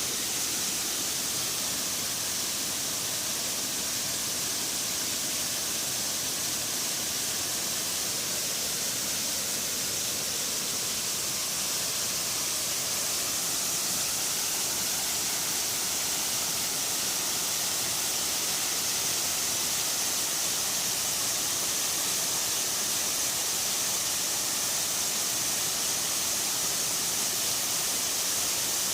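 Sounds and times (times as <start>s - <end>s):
waterfall and stream rushing: 0.0s - 28.9s.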